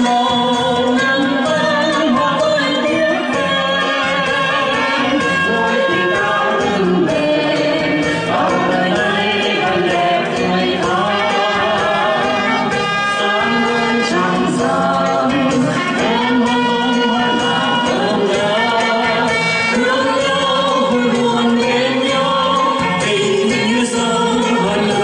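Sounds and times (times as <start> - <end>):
amplified backing music: 0.0 - 25.0
group of people singing: 0.0 - 25.0.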